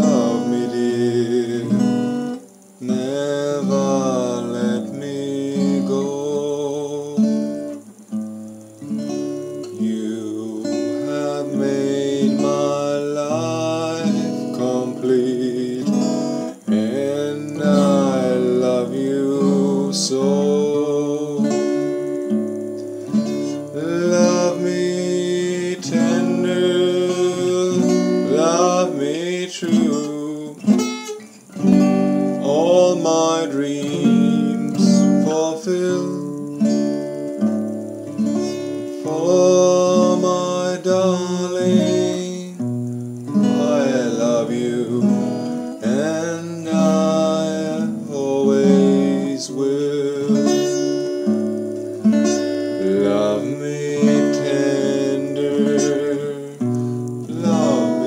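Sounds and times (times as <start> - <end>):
man singing: 0.0 - 7.9, 8.9 - 22.3, 23.1 - 37.1, 38.2 - 51.3, 52.2 - 58.0
acoustic guitar strummed and picked: 0.0 - 58.0.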